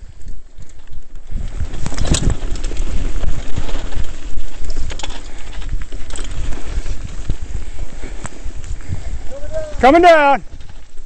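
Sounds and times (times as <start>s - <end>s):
mountain bike rattling: 0.0s - 11.0s
wind on microphone: 0.0s - 11.0s.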